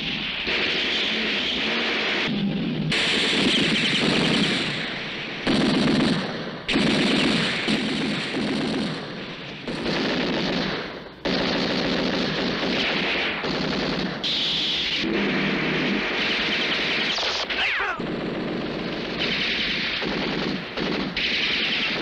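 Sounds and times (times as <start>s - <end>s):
automatic gunfire: 2.9s - 22.0s.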